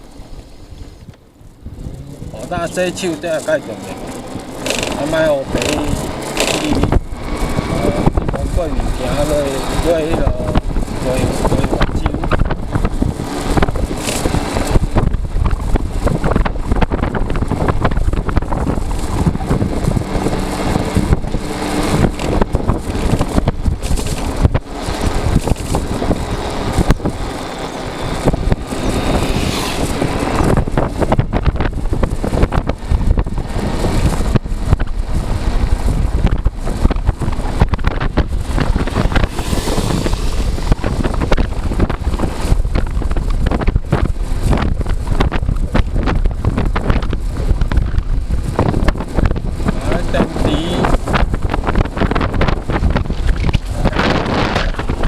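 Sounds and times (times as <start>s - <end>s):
scooter road and tyre noise: 0.0s - 55.0s
wind buffeting microphone: 0.0s - 55.0s.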